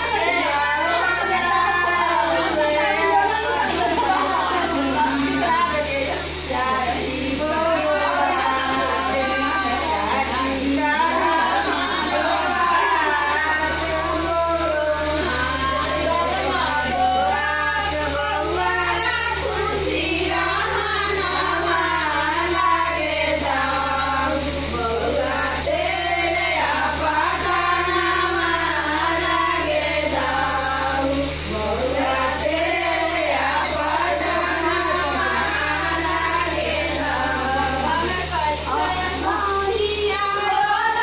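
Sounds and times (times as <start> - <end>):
steady low hum: 0.0 - 41.0
women singing together: 0.0 - 41.0.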